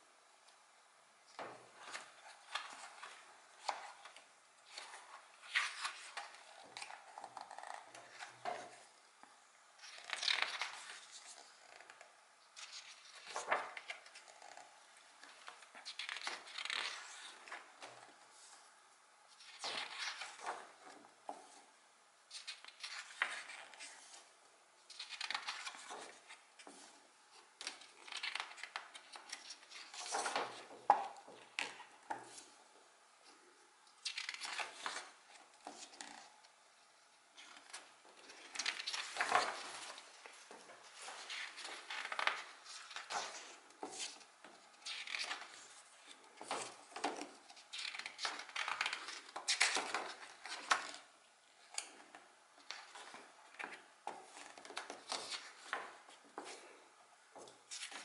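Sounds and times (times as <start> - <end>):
book pages turning: 1.4 - 8.9, 9.8 - 18.7, 19.4 - 21.7, 22.4 - 24.3, 24.9 - 32.6, 33.9 - 36.3, 37.4 - 56.8, 57.4 - 58.0.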